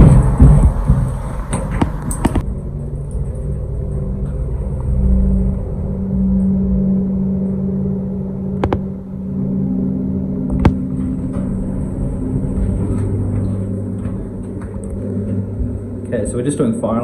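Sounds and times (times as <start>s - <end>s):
fan running with low rumble: 0.0s - 17.0s.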